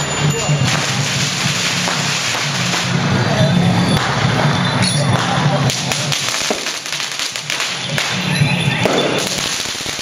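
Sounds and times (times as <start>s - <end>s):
loud procession music: 0.0s - 10.0s
firecrackers popping: 0.6s - 3.2s, 3.9s - 10.0s.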